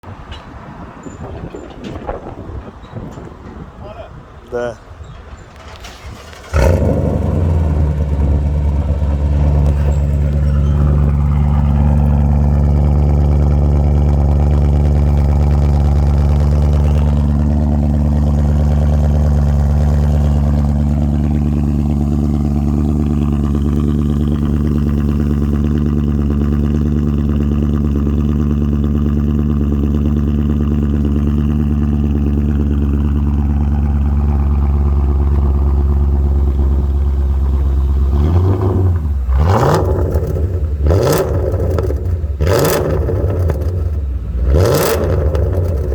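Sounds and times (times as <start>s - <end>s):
car engine starting and idling: 5.3s - 45.9s.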